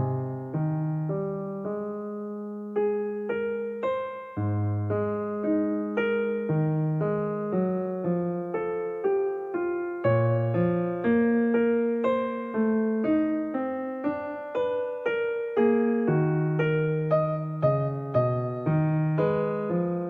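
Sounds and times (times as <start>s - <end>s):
gentle keyboard music: 0.0s - 20.0s.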